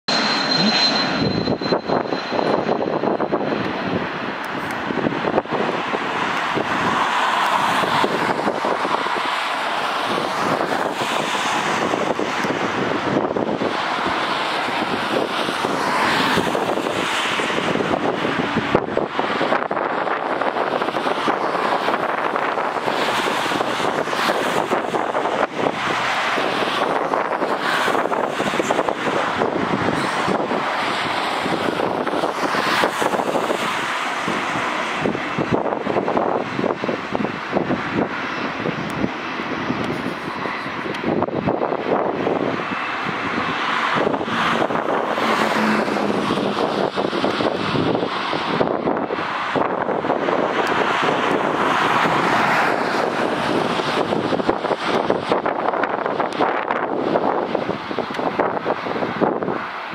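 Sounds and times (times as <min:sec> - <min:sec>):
jet engines running: 0:00.0 - 0:59.9
wind buffeting microphone: 0:00.1 - 0:59.9.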